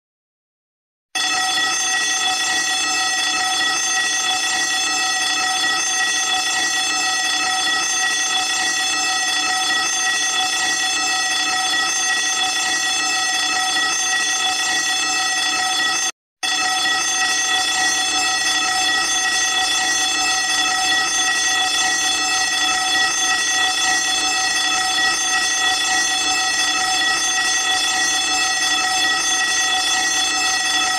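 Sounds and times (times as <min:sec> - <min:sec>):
fire alarm bell ringing: 0:01.2 - 0:30.9.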